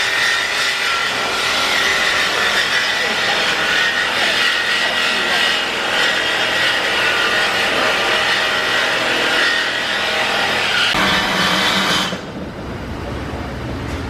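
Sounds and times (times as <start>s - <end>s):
power tool cutting steel pipe: 0.0s - 12.3s.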